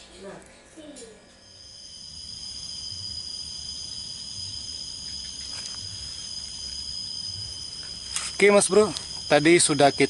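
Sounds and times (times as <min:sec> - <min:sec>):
insects chirring: 0:01.4 - 0:10.0.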